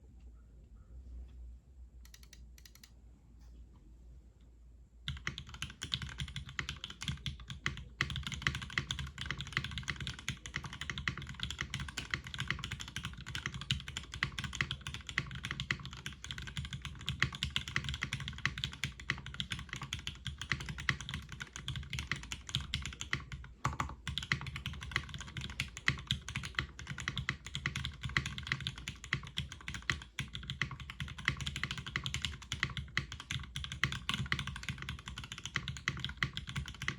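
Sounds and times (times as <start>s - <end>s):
mechanical keyboard typing: 2.0s - 2.9s, 5.1s - 36.9s.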